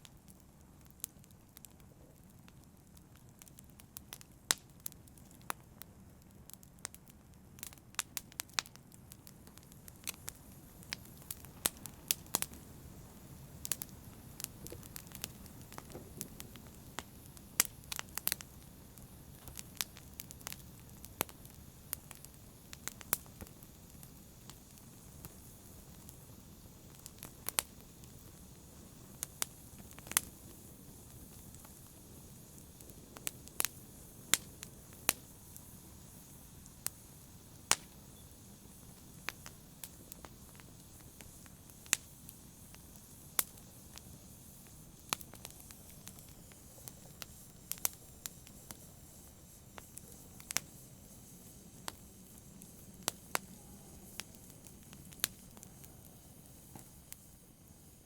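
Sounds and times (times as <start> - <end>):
fire hissing: 0.0 - 58.0
wood fire crackling and popping: 0.0 - 58.0.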